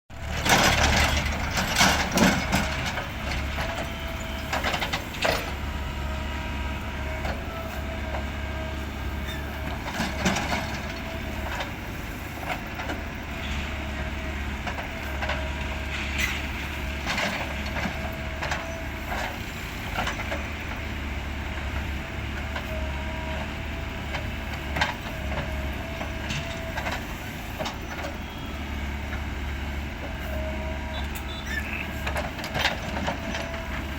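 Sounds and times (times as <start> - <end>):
backhoe diesel engine whining: 0.1 - 33.9.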